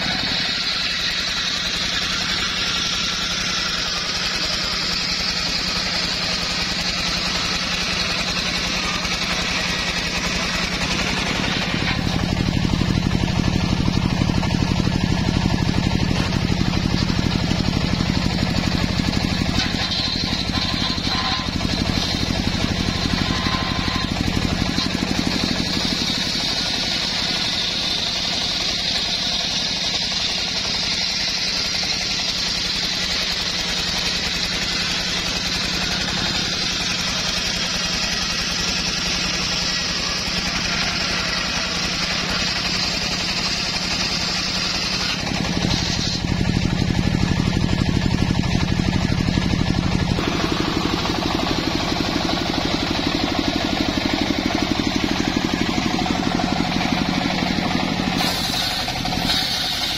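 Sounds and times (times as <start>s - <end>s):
saw blade ripping through log: 0.0s - 13.5s, 14.1s - 47.1s, 50.2s - 59.9s
sawmill engine running: 0.0s - 59.9s.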